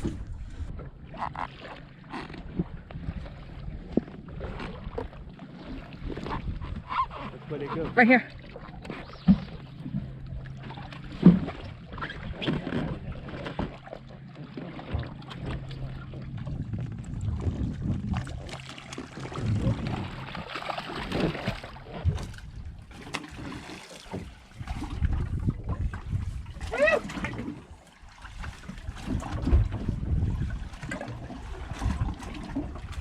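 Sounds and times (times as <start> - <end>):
boat engine hum: 0.0 - 33.0
water splashing: 0.0 - 33.0.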